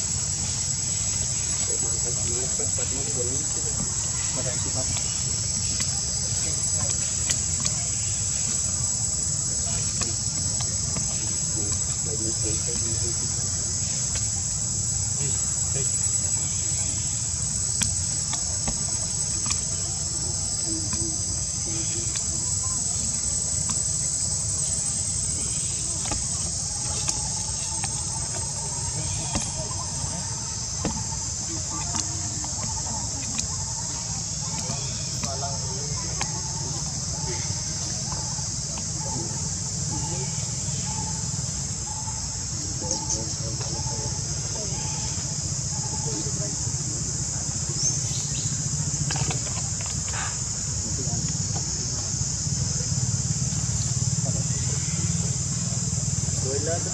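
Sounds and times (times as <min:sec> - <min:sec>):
insect chorus drone: 0:00.0 - 0:56.9.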